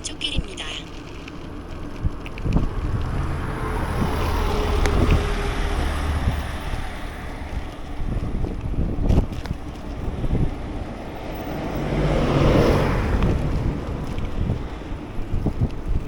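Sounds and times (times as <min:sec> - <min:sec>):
scooter engine and road rumble: 0:00.0 - 0:16.0
wind buffeting microphone: 0:01.0 - 0:16.0.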